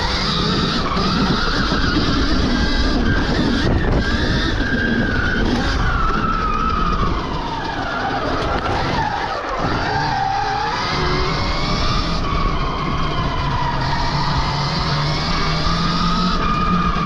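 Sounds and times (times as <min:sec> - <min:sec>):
electric motorbike motor whining: 0:00.0 - 0:17.0
wind and tyre noise: 0:00.0 - 0:17.0.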